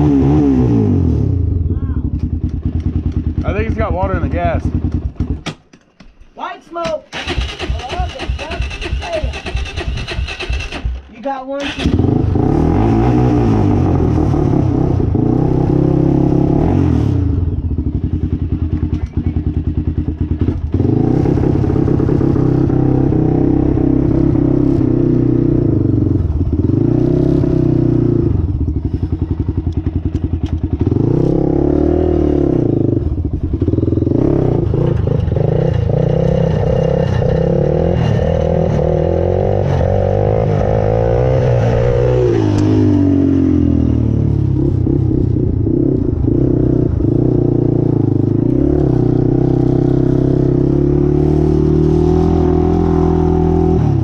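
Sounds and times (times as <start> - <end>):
quad engine revving: 7.1 - 11.0, 11.6 - 54.0.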